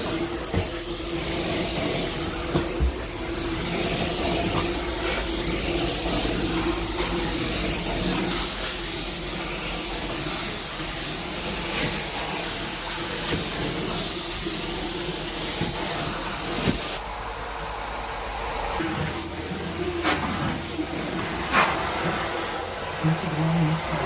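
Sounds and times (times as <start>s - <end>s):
carpet cleaning machine suction hiss: 0.0s - 24.0s.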